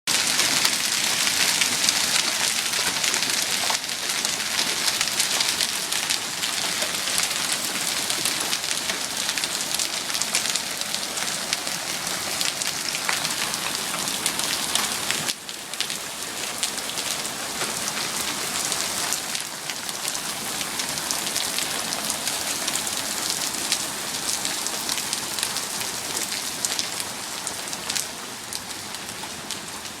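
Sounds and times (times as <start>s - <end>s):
hail pelting down: 0.1s - 29.7s.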